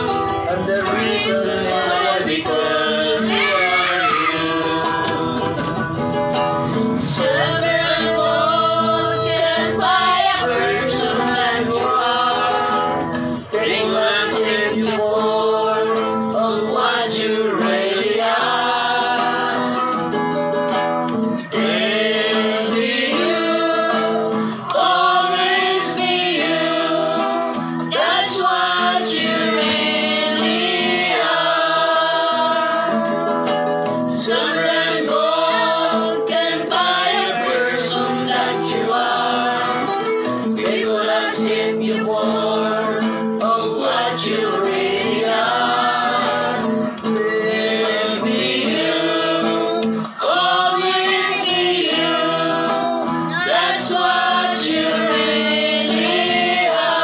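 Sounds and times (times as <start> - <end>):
group singing: 0.0 - 57.0
instrumental accompaniment: 0.0 - 57.0.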